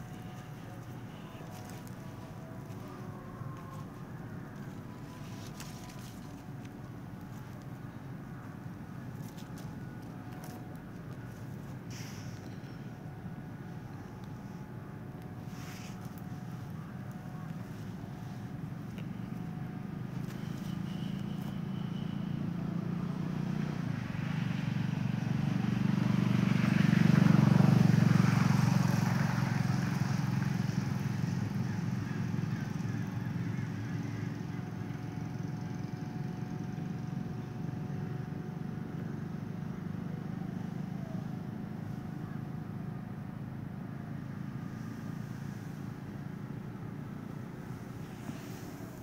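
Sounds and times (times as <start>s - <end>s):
motor vehicle passing rumble: 0.0s - 49.0s.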